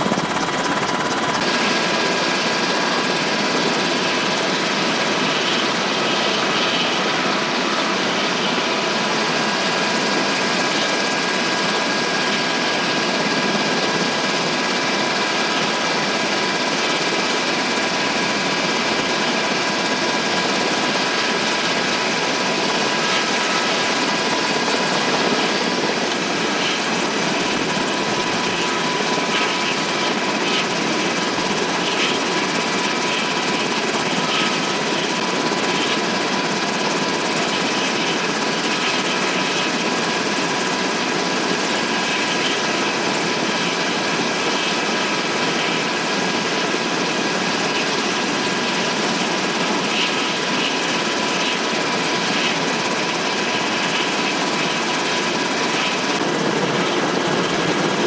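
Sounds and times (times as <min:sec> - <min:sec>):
helicopter turbine and rotor roar: 0:00.0 - 0:58.0.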